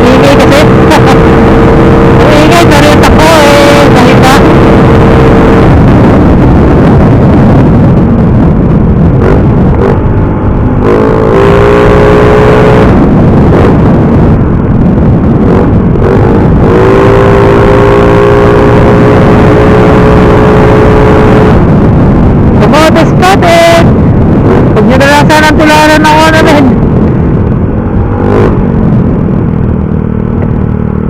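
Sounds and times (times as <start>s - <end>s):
loud motorcycle engine: 0.0s - 31.0s
wind rush on microphone: 0.0s - 31.0s.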